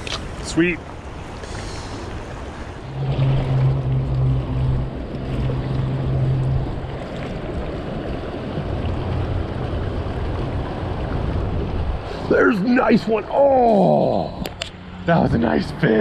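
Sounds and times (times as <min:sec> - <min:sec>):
loud low hum: 0:02.8 - 0:16.0.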